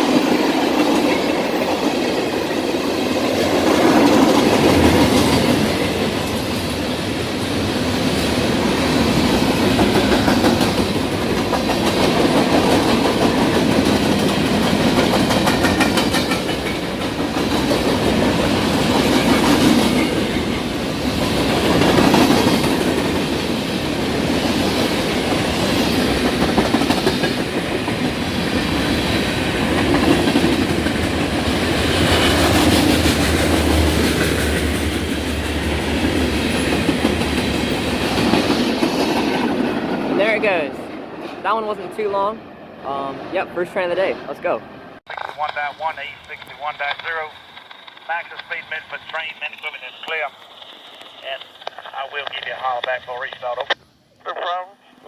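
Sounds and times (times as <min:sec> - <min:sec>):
train wheels rumbling on rails: 0:00.0 - 0:41.7, 0:45.1 - 0:53.6.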